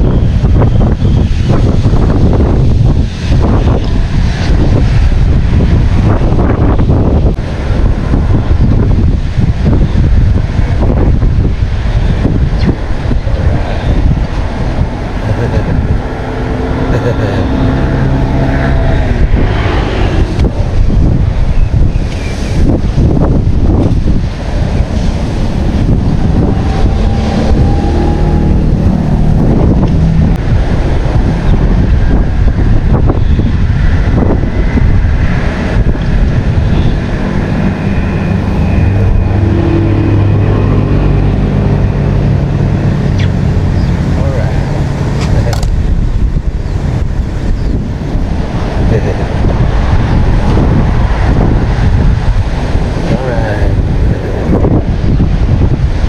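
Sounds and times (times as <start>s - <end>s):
low motor hum: 0.0s - 56.0s
wind buffeting microphone: 0.0s - 56.0s.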